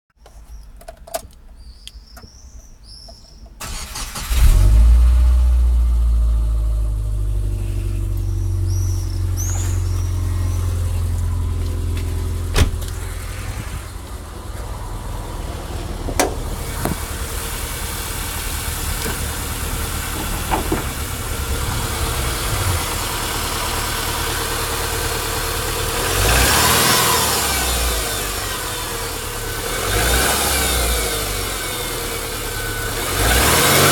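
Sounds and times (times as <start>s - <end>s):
car engine cranking: 3.6s - 5.6s, 8.1s - 33.9s
car engine idling: 3.6s - 33.2s.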